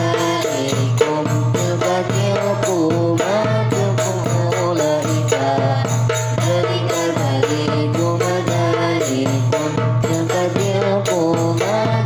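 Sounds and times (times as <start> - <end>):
chanted teaching song: 0.0 - 12.0
percussion beat: 0.0 - 12.0.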